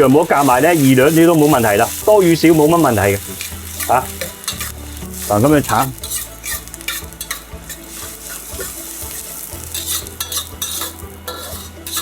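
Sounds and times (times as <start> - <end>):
garlic sizzling in hot oil: 0.0 - 12.0
spatula scraping a wok: 0.0 - 12.0.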